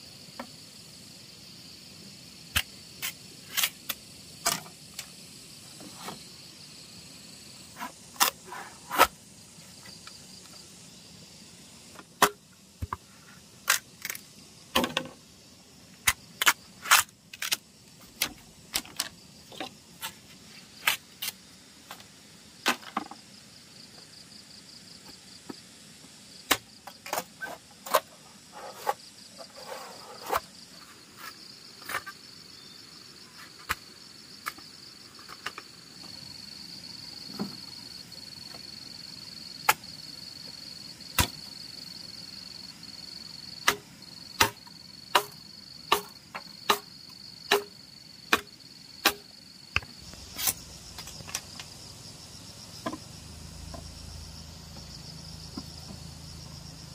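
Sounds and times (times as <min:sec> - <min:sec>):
high insect trill: 0:00.0 - 0:56.9.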